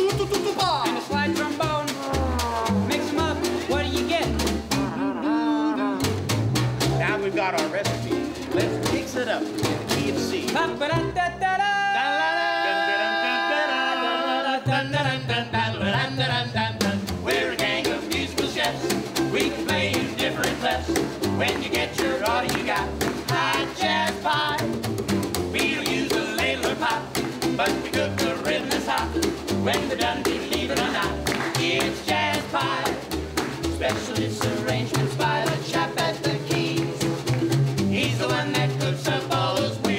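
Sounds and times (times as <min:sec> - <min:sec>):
snare drum swing beat: 0:00.0 - 0:04.9, 0:06.0 - 0:10.9, 0:16.8 - 0:39.9
people singing: 0:00.0 - 0:05.0, 0:08.1 - 0:24.8, 0:25.4 - 0:39.9
ukulele: 0:00.0 - 0:39.9
upright bass: 0:00.0 - 0:39.9.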